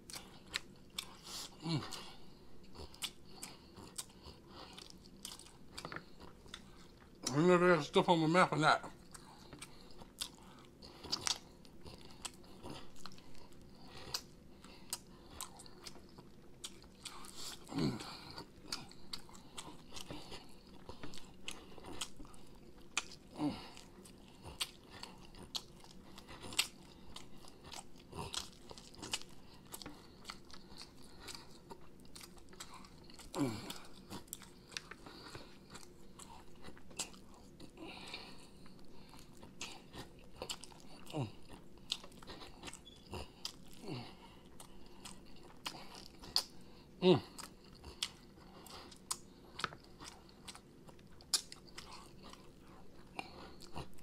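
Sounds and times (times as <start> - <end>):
wet chewing and lip smacking: 0.0 - 8.2, 8.8 - 54.0.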